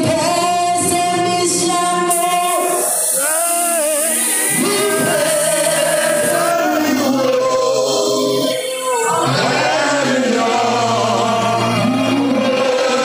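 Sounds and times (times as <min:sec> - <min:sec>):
person singing gospel: 0:00.0 - 0:13.0
sustained backing music: 0:00.0 - 0:13.0.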